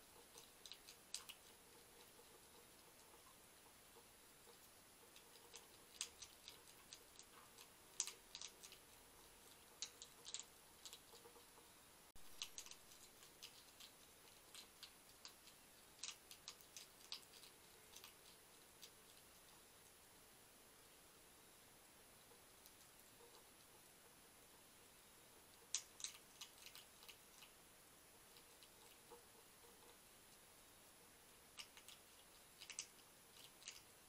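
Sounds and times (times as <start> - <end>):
hedgehog crunching dry food: 0.0 - 11.6, 12.2 - 20.0, 22.2 - 24.2, 25.3 - 27.6, 28.2 - 30.0, 31.3 - 34.0.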